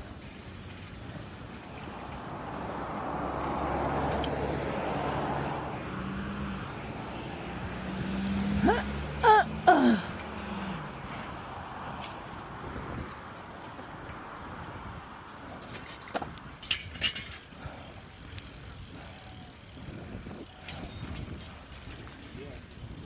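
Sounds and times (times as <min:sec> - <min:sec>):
vehicle passing: 0:00.0 - 0:15.6, 0:17.2 - 0:23.0.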